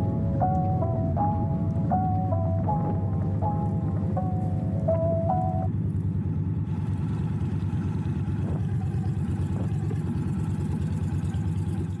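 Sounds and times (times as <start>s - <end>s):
motorcycle engine running: 2.2s - 12.0s.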